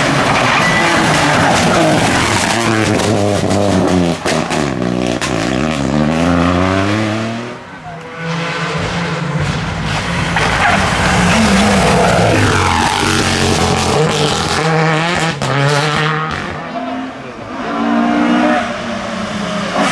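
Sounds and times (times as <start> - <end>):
rally car engine revving: 0.0 - 19.9
tyres skidding: 0.0 - 19.9.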